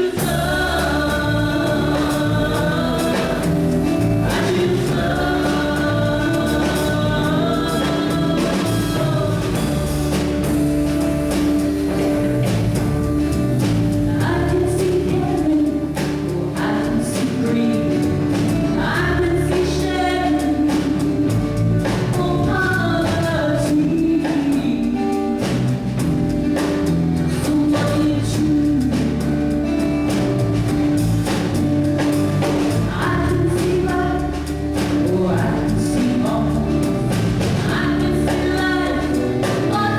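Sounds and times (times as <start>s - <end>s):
gospel singing with band: 0.0s - 39.9s
steady drum beat: 0.0s - 39.9s.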